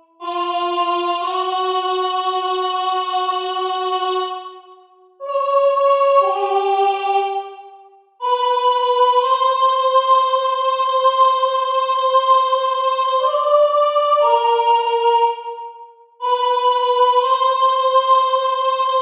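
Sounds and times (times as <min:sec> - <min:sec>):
soprano voices singing in harmony: 0:00.0 - 0:19.0.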